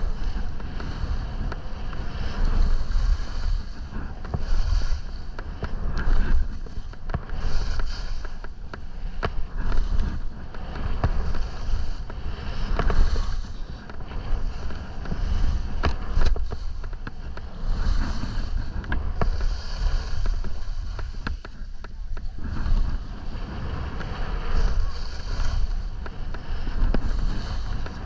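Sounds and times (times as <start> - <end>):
skis scraping through snow: 0.0 - 28.0
wind rumbling on microphone: 0.0 - 28.0.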